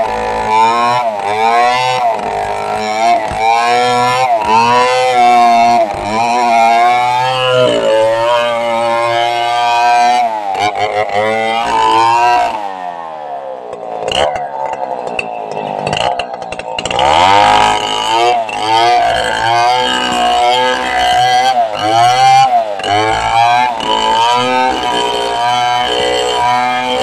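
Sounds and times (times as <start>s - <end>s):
chainsaw cutting through log: 0.0s - 27.0s.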